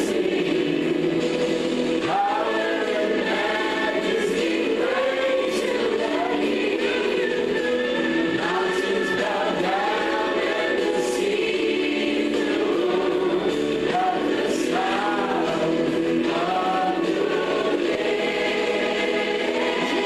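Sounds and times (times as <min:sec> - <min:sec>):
choir singing gospel: 0:00.0 - 0:20.0.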